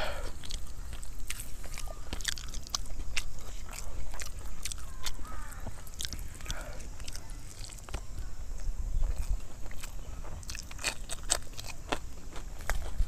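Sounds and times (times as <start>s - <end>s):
close-up chewing with mouth smacks: 0.2s - 13.0s.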